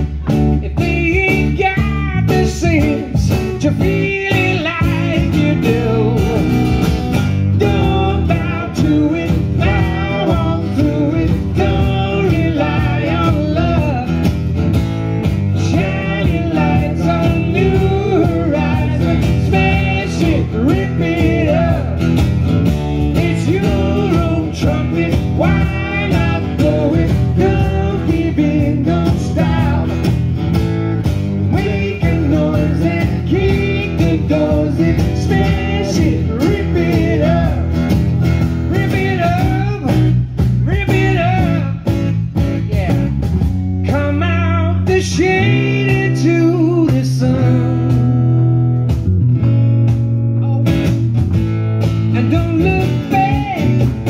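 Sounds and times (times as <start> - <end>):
man singing: 0.0 - 14.3, 15.5 - 22.2, 23.0 - 30.3, 31.4 - 37.8, 38.6 - 43.1, 43.8 - 48.2, 52.0 - 54.0
strummed acoustic guitars: 0.0 - 54.0.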